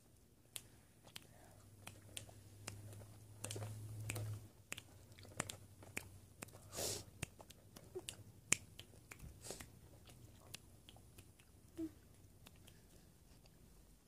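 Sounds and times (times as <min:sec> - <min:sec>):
chewing candy: 0:00.6 - 0:13.6.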